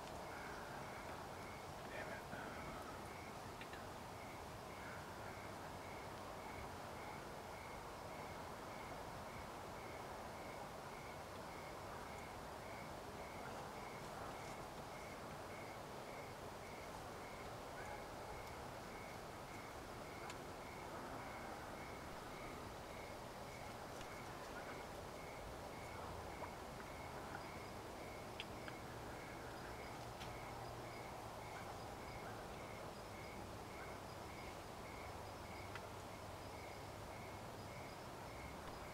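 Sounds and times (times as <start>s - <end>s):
open air hiss: 0.0s - 38.9s.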